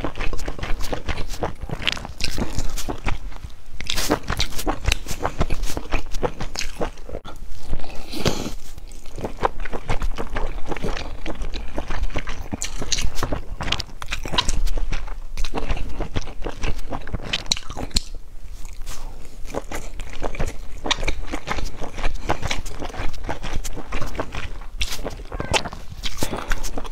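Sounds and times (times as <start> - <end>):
chewing soft buns: 0.0 - 26.9.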